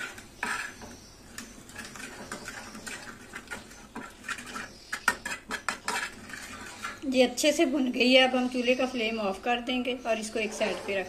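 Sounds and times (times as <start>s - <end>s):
spoon scraping metal pan: 0.0s - 9.0s, 9.8s - 11.0s.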